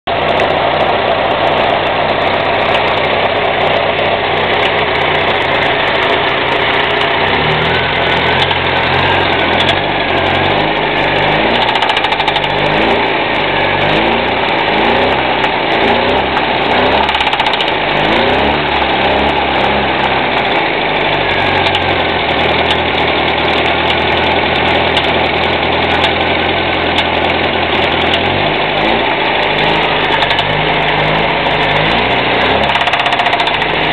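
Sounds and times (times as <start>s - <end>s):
knocking petrol engine revving: 0.1s - 33.9s.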